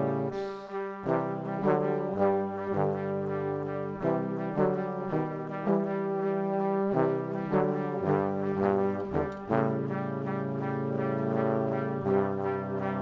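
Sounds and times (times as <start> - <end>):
brass instruments playing chords: 0.0 - 13.0.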